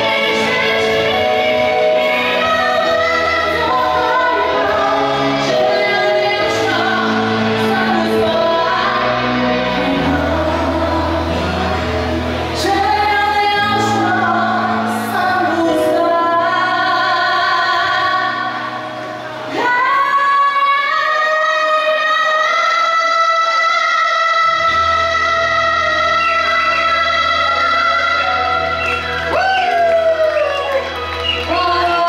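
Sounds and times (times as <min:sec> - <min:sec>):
woman singing: 0:00.0 - 0:32.0.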